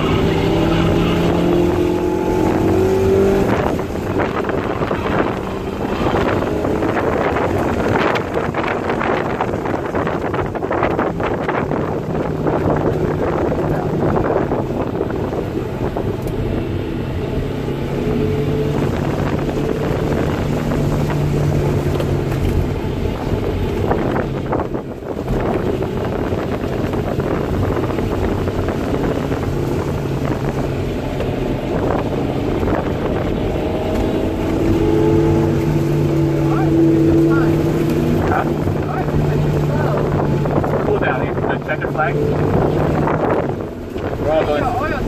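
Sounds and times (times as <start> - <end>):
car engine accelerating hard: 0.0 - 45.0
wind noise: 0.0 - 45.0.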